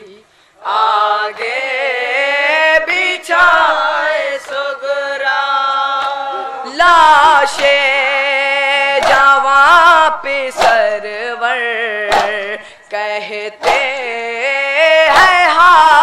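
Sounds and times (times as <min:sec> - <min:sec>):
men singing together unaccompanied: 0:00.0 - 0:16.0.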